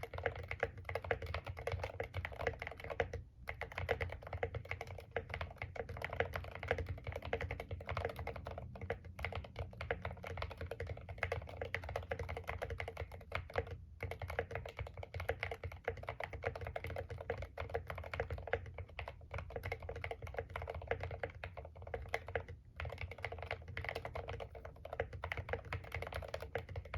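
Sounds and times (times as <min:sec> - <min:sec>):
typing on mechanical keyboard: 0:00.0 - 0:26.9.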